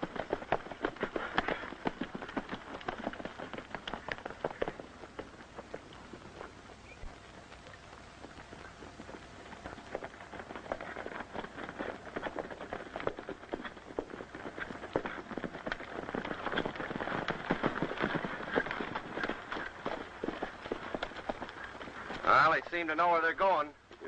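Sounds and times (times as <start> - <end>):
horses galloping hoofbeats: 0.0 - 24.0.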